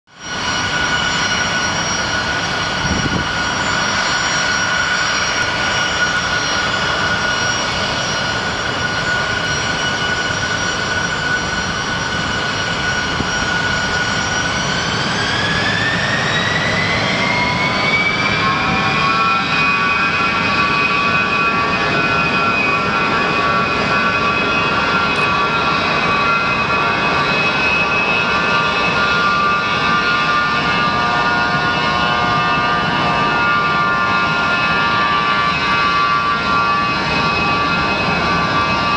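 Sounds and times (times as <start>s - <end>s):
jet engines whining and roaring: 0.1s - 38.9s.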